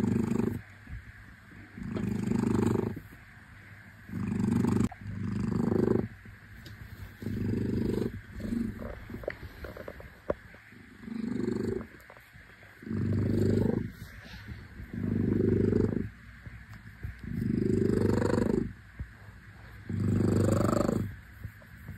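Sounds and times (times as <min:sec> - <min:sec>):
cat purring loudly: 0:00.0 - 0:00.6, 0:01.5 - 0:03.2, 0:04.0 - 0:19.0, 0:19.6 - 0:21.8.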